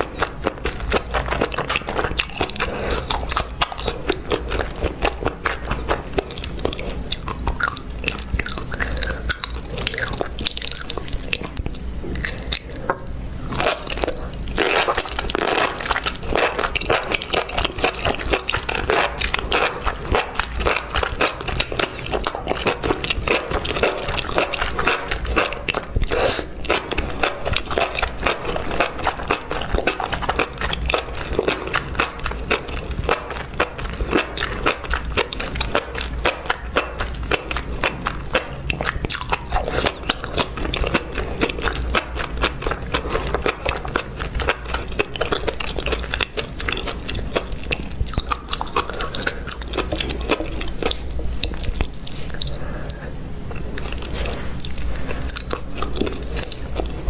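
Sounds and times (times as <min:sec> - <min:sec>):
person chewing and biting food: 0:00.0 - 0:57.0
sticky mouth clicks: 0:00.0 - 0:57.0.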